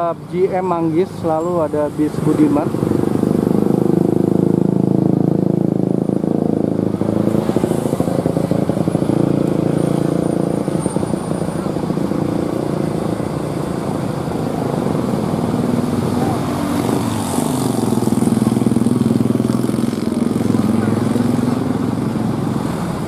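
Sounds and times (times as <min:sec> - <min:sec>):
road traffic engines droning: 0:00.0 - 0:23.0
vehicles passing: 0:00.0 - 0:23.0.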